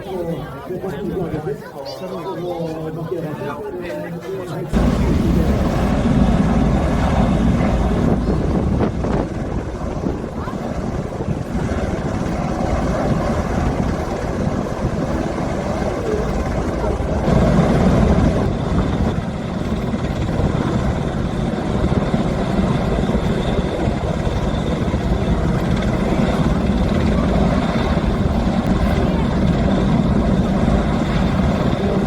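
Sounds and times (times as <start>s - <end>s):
aircraft engine drone: 4.8s - 32.0s.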